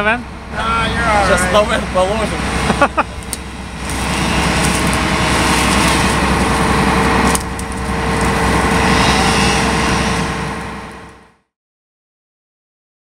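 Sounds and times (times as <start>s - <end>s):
engine running: 0.0s - 11.5s.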